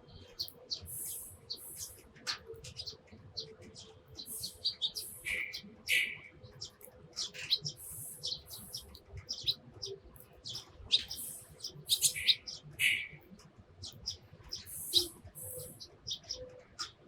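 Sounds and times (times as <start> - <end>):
sparrows chirping: 0.1 - 17.0.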